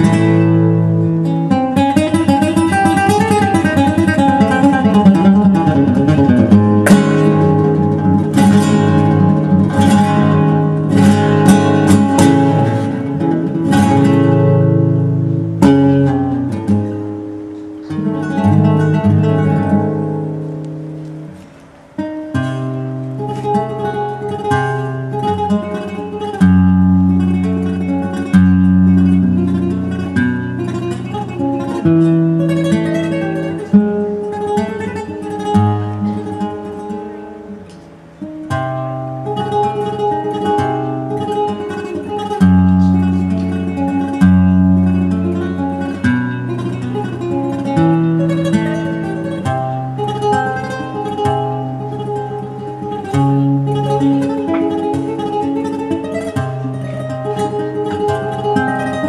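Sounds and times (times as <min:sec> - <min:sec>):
solo flamenco guitar: 0:00.0 - 0:59.0.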